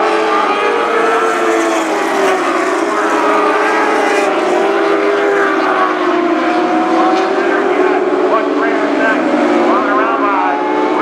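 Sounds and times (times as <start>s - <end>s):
race car engines at high revs: 0.0s - 11.0s.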